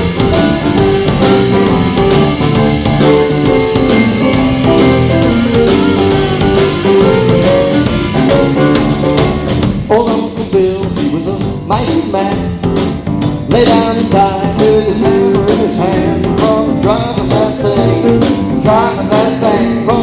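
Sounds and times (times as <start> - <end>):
drums: 0.0 - 20.0
guitar: 0.0 - 20.0
live band playing bluesy music: 0.0 - 20.0.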